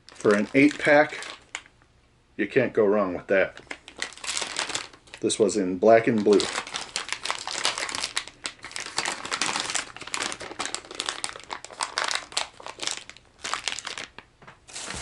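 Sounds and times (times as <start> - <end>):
plastic package crinkling: 0.0 - 1.7, 3.5 - 15.0.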